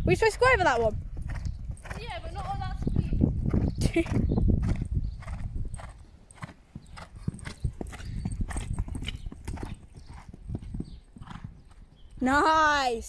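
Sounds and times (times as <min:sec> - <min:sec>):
horse hoofbeats on sand: 0:00.2 - 0:12.4.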